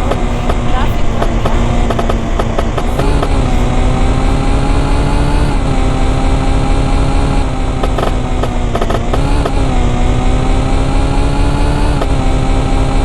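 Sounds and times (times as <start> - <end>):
heavy low rumble: 0.0 - 13.0
moped two-stroke engine: 0.0 - 13.0.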